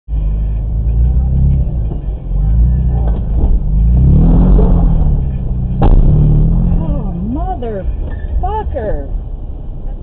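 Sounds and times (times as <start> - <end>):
vehicle engine labouring: 0.1 - 10.0.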